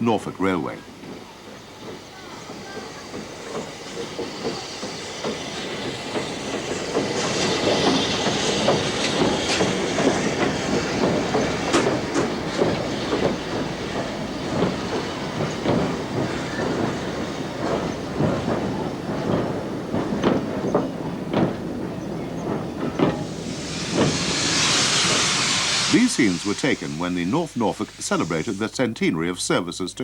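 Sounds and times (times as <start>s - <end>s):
wheels clattering over rail joints: 0.4s - 26.4s
steam hissing: 0.8s - 29.8s.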